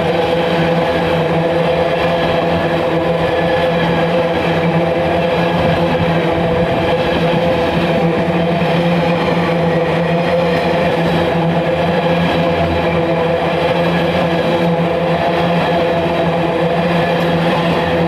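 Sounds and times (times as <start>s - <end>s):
locomotive engine droning: 0.0s - 18.0s.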